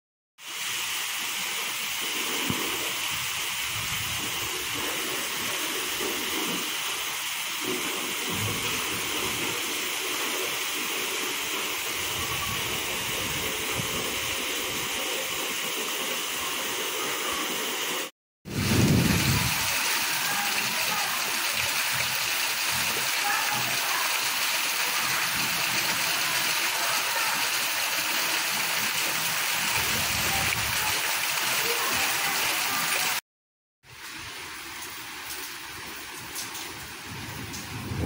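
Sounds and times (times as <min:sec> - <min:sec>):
heavy rain pouring: 0:00.4 - 0:33.2, 0:33.8 - 0:38.0.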